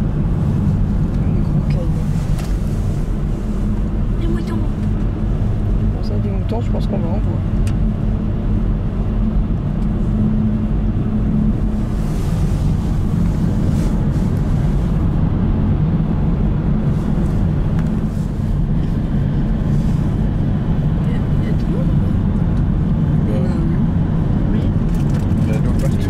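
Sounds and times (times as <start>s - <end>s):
car engine and tyre drone: 0.0s - 26.0s.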